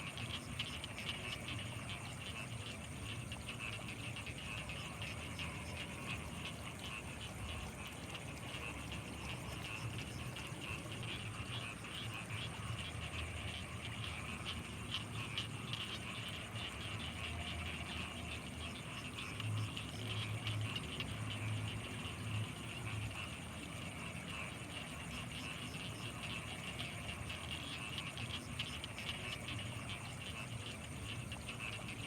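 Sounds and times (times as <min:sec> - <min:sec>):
deep pulsing frog calls: 0:00.0 - 0:32.0
frogs chirring: 0:00.0 - 0:32.0
high-pitched insect whine: 0:00.0 - 0:32.0.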